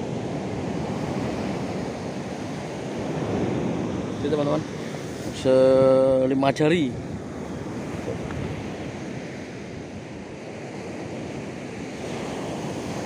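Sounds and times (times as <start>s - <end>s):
ocean surf breaking: 0.0s - 13.0s
wind noise on microphone: 0.0s - 13.0s.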